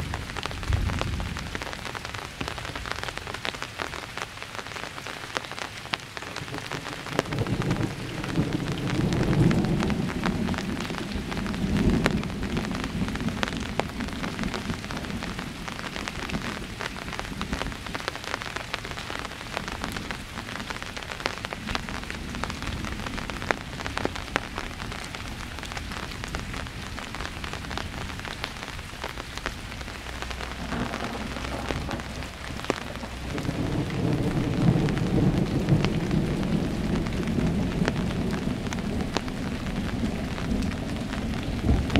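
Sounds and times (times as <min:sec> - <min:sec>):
thunder rumbling: 0:00.0 - 0:03.3, 0:06.3 - 0:41.9
rain pattering: 0:00.0 - 0:41.9.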